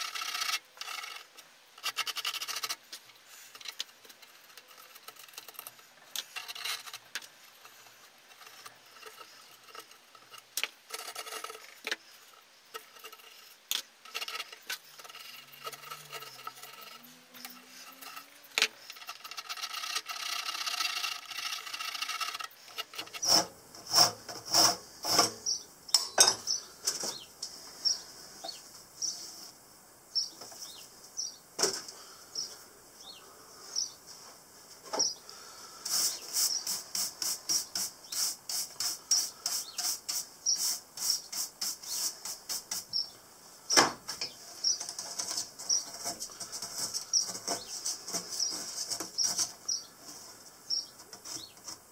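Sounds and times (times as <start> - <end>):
metal tool scraping lining: 0.0 - 28.0, 35.8 - 43.0, 44.1 - 51.9.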